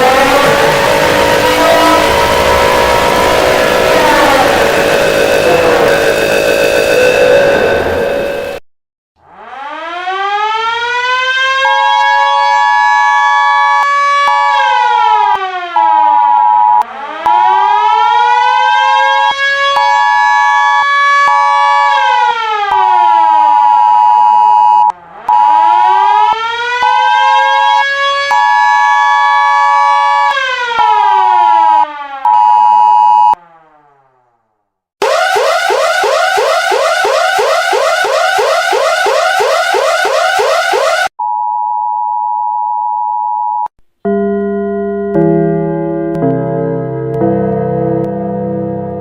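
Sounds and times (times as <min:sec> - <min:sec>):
emergency siren winding up and down: 0:00.0 - 0:08.6, 0:09.2 - 0:41.2.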